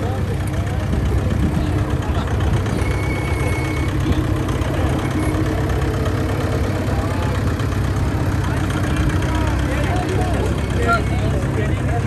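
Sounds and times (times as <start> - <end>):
vehicle engine idling low: 0.0 - 12.0.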